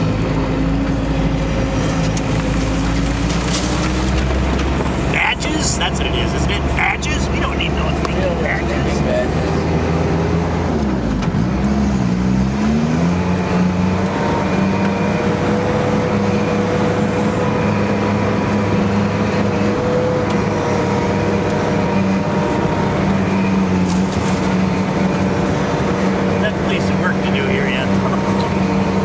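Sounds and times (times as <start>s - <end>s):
vehicle engine droning: 0.0s - 29.0s.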